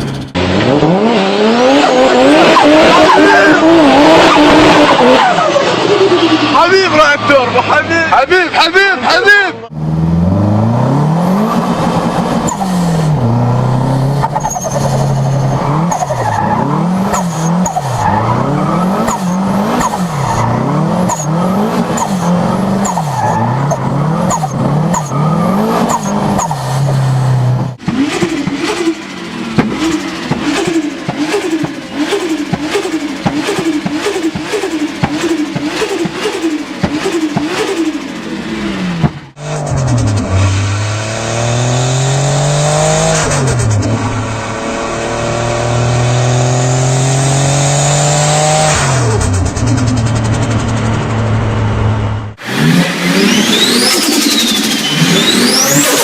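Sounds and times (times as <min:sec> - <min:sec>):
turbo car engine revving: 0:00.0 - 0:56.0.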